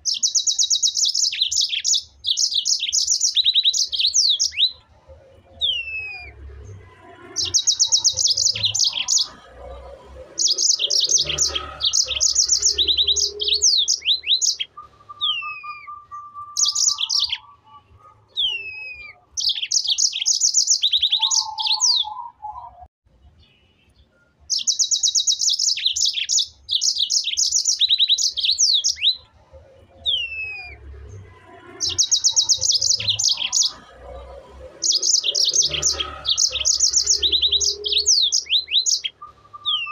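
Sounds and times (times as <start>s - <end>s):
songbird singing trills and whistles: 0.0s - 22.9s, 24.1s - 39.9s.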